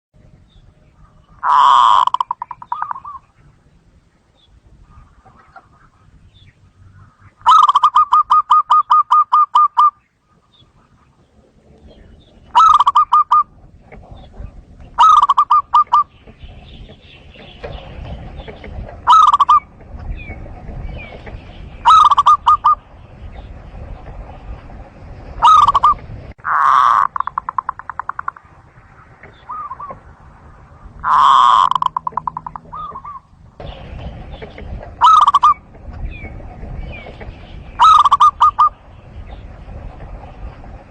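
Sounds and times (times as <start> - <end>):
dove cooing: 0.8 - 3.4, 4.9 - 23.6, 25.4 - 30.2, 30.8 - 39.5.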